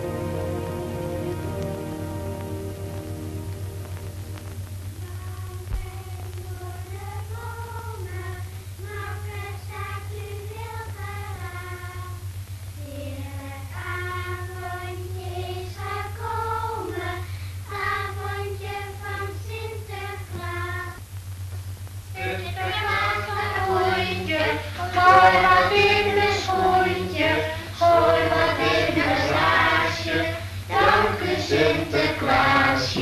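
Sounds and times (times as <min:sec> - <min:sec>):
children's choir singing: 0:00.0 - 0:03.5, 0:05.0 - 0:12.2, 0:12.9 - 0:21.0, 0:22.2 - 0:33.0
steady low hum: 0:00.0 - 0:33.0.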